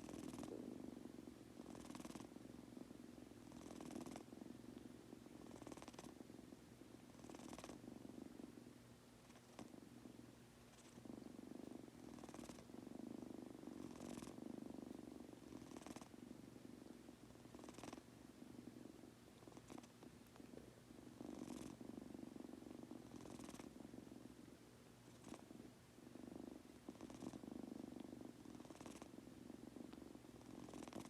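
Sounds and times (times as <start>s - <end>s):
kitten purring: 0.0s - 31.0s.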